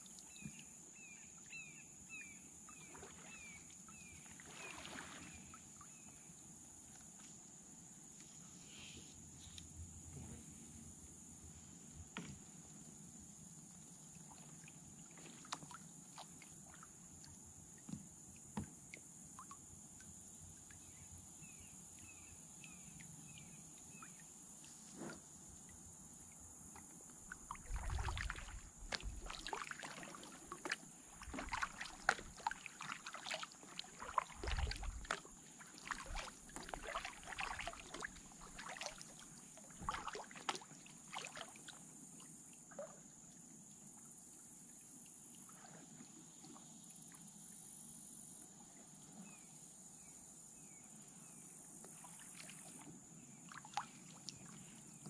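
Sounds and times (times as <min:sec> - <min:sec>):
paddle splashes and drips: 0:00.0 - 0:08.4, 0:09.4 - 0:50.0, 0:51.3 - 0:55.0.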